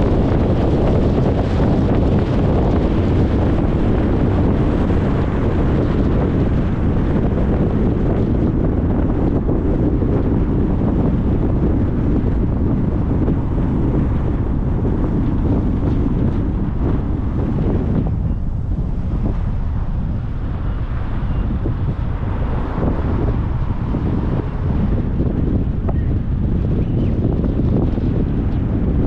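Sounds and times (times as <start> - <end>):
tyres on the road: 0.0 - 29.0
wind rushing past: 0.0 - 29.0.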